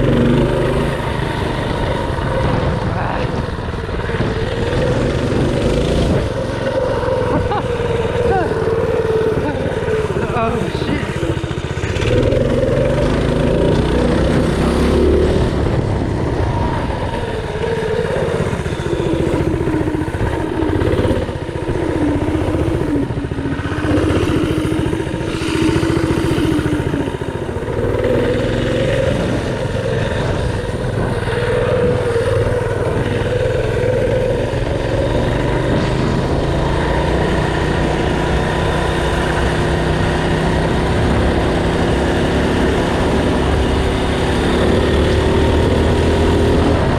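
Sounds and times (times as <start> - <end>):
mini bike engine running: 0.0 - 46.9.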